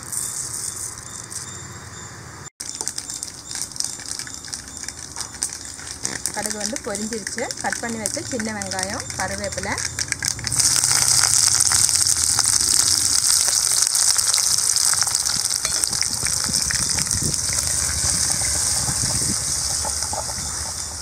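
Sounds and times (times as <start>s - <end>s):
food sizzling in hot oil: 2.6s - 21.0s.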